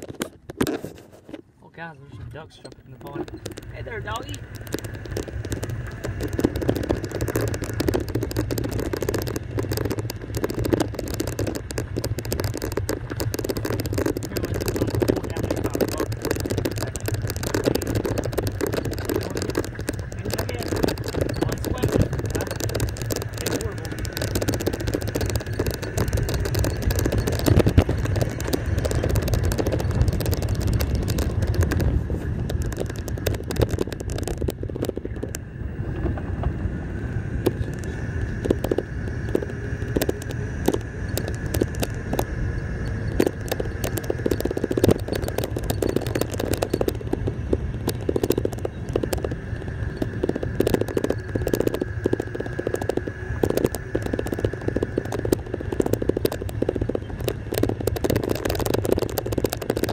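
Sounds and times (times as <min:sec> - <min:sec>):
dashboard items rattling: 0:00.0 - 0:36.6, 0:37.3 - 0:59.9
golf cart driving: 0:00.0 - 0:59.9.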